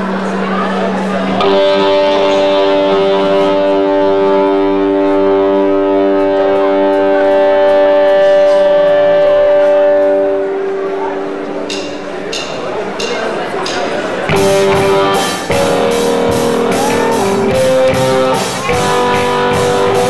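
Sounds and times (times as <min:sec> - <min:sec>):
electric guitar chord ringing: 0:01.3 - 0:12.1, 0:14.3 - 0:20.0.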